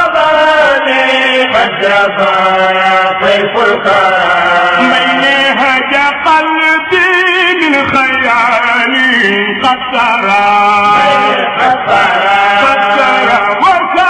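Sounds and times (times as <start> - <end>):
person chanting: 0.0 - 14.0.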